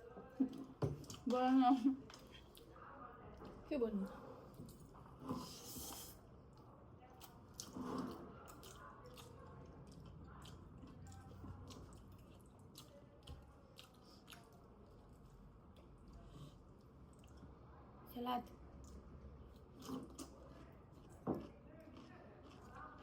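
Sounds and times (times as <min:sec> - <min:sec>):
chewing and crunching food: 0:00.0 - 0:23.0.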